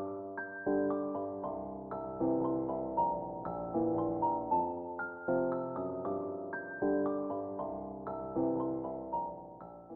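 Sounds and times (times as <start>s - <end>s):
gentle piano music: 0.0s - 9.9s.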